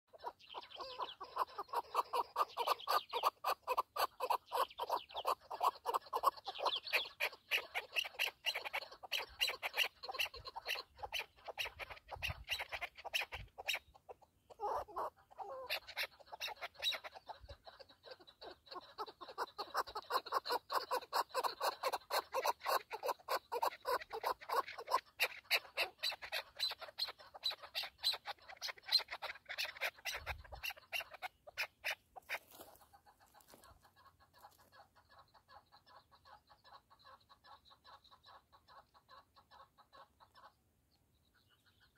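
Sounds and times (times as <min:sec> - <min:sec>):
partridge clucking call: 0:00.1 - 0:40.6.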